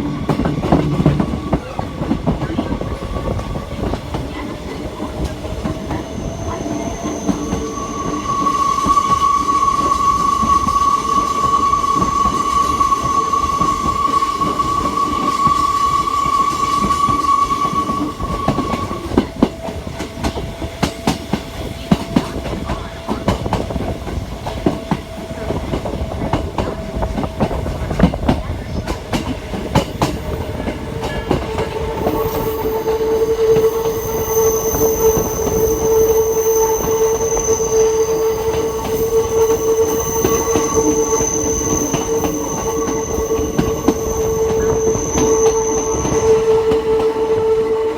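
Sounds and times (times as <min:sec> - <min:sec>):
train wheels squealing: 0:00.4 - 0:23.2, 0:28.6 - 0:47.9.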